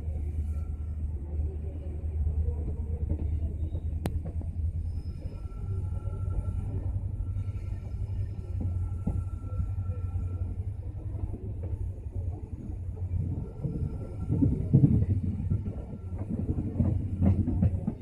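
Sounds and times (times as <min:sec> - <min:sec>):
train coaches running: 0:00.0 - 0:18.0.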